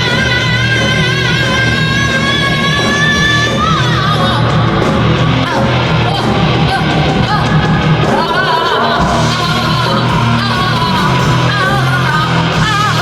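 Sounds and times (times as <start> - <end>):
punk rock band with electric guitar: 0.0 - 13.0
yelled sung vocals: 2.4 - 13.0.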